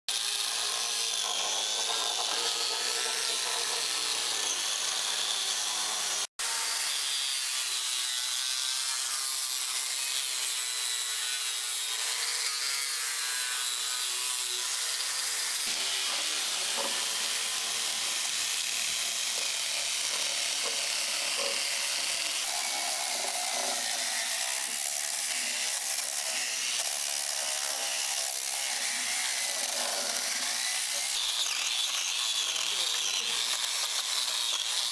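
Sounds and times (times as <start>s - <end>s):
power carving tool grinding wood: 0.1s - 34.9s.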